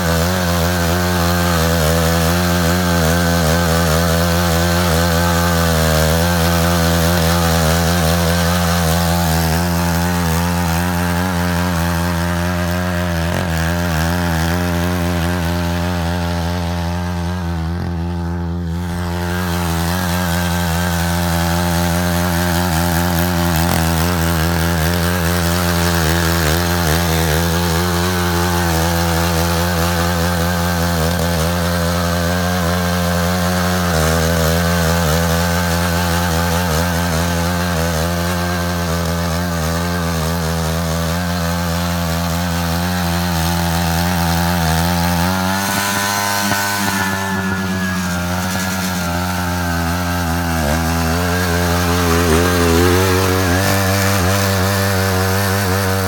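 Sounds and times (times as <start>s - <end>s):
power tiller engine running: 0.0s - 56.0s.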